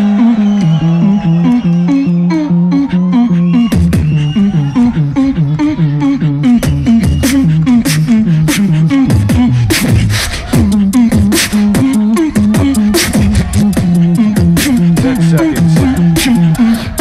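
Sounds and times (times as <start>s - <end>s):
beatboxers performing: 0.0s - 17.0s
hummed bassline: 0.0s - 17.0s.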